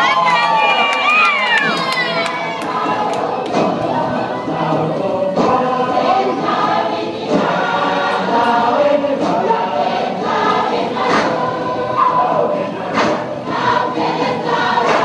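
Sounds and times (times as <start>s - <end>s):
group singing in harmony: 0.0s - 15.0s.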